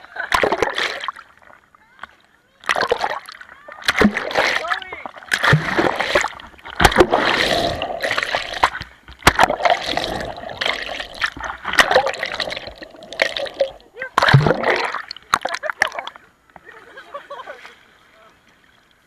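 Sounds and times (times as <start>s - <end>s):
seawater splashing underwater: 0.2s - 16.3s.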